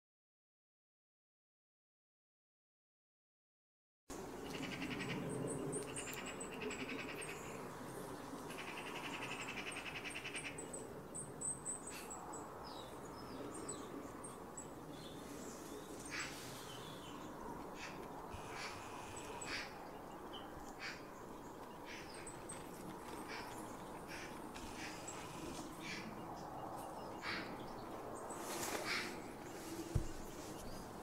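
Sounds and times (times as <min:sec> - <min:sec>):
small birds chirping: 0:04.4 - 0:31.0.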